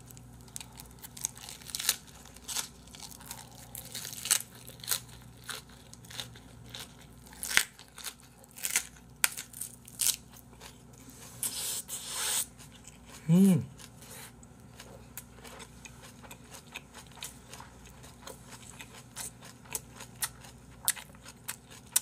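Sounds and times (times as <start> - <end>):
crunchy chewing: 0.0 - 22.0
rustling chew: 0.0 - 22.0.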